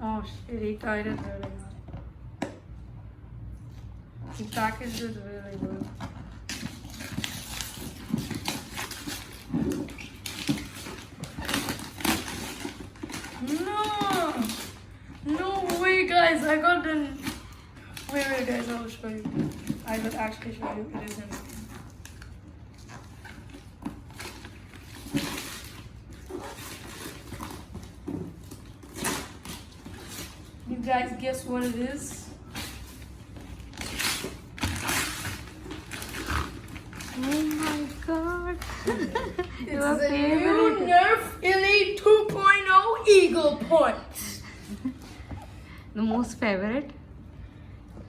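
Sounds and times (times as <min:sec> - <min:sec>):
wrapping paper tearing and rustling: 0:04.3 - 0:45.7.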